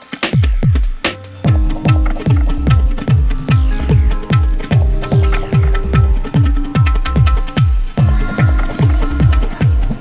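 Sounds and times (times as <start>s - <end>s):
pounding kick drum: 0.3s - 10.0s.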